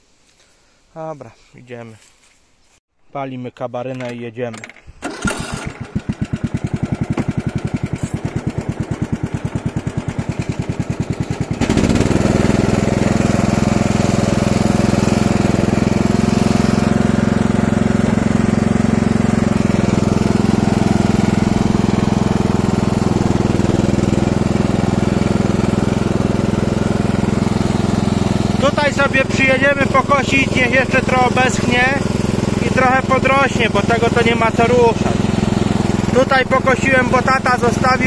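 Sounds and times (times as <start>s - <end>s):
small petrol engine running: 5.0s - 38.0s.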